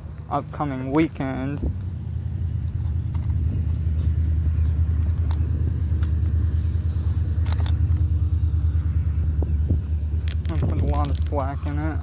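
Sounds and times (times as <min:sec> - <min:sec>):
pulsing low rumble: 0:00.0 - 0:12.0.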